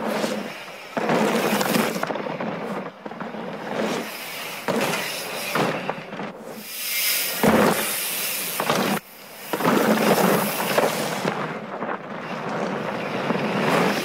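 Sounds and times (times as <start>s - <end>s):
bike tyres crunching on gravel: 0.0s - 14.0s.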